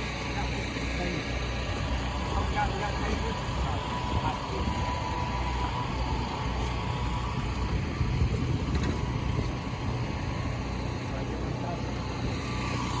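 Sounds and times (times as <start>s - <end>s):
engines droning: 0.0s - 13.0s.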